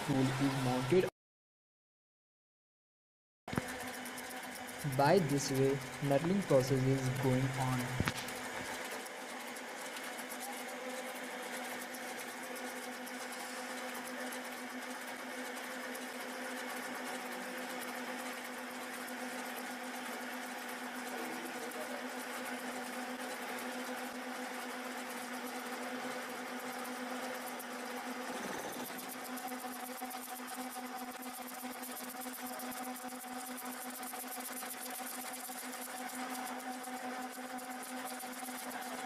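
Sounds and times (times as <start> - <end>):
lathe running with mechanical hum: 0.0 - 1.1, 3.5 - 39.0.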